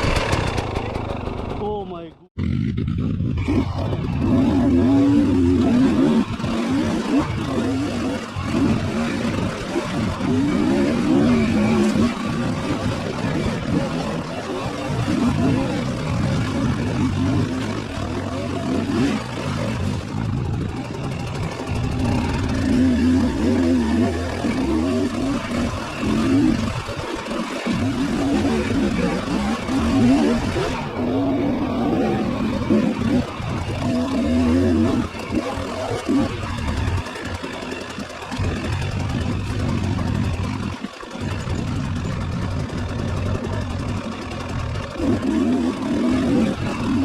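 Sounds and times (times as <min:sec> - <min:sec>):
motorcycle engine running: 0:00.0 - 0:47.0
rough road noise: 0:00.0 - 0:47.0.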